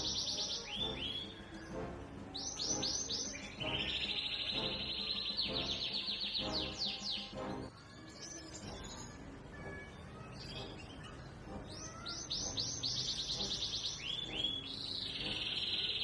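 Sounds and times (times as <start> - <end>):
canary singing trills: 0.0 - 16.0.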